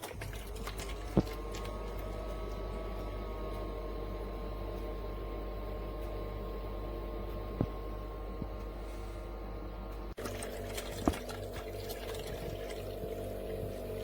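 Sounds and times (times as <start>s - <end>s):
ice maker motor hum: 0.0s - 14.0s.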